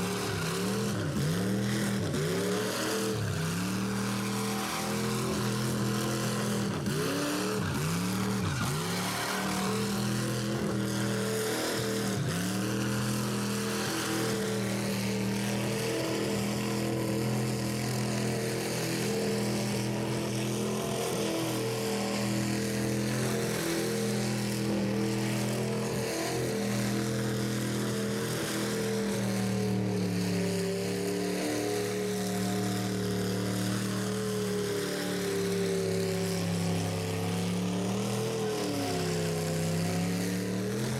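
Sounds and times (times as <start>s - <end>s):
car engine at high revs: 0.0s - 40.9s
tires spinning hiss: 0.0s - 40.9s.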